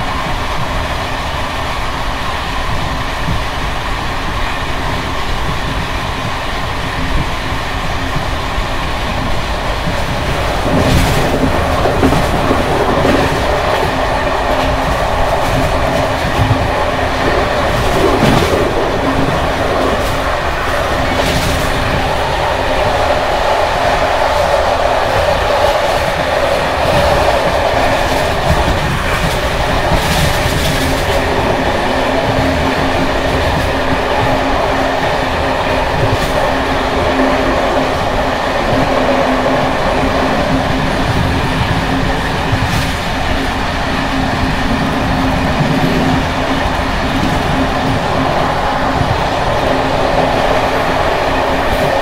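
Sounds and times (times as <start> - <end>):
train coach rattling over track: 0.0 - 52.0.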